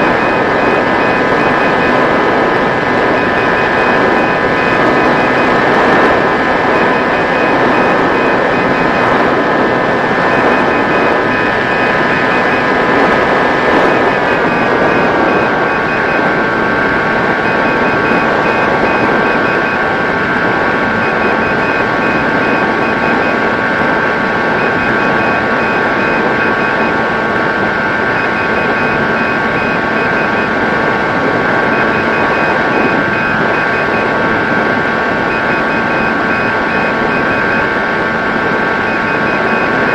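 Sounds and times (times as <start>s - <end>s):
faint high beeping: 0.0s - 23.6s, 24.4s - 27.0s, 27.8s - 30.6s, 31.6s - 34.5s, 35.1s - 37.8s, 38.8s - 39.9s.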